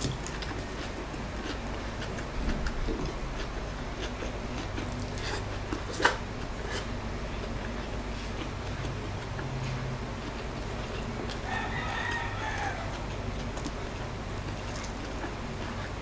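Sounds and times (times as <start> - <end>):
chewing crunchy food: 0.0 - 16.0.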